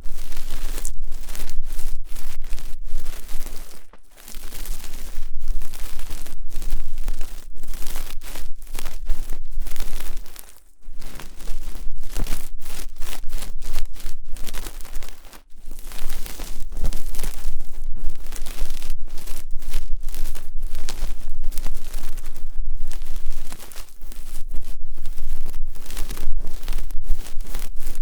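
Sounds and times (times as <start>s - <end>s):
ear pick scraping: 0.0s - 28.0s.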